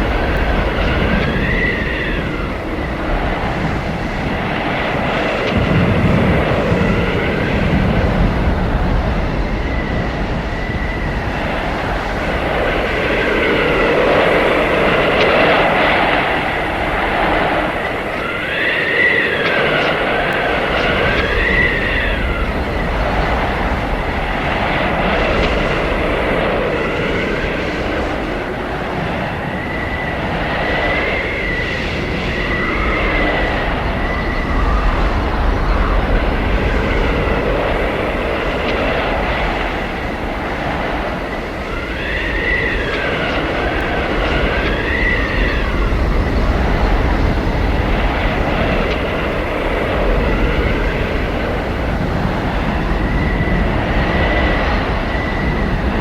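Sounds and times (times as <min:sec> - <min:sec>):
high whistling wind: 0:00.0 - 0:56.0
wind howling: 0:00.0 - 0:56.0.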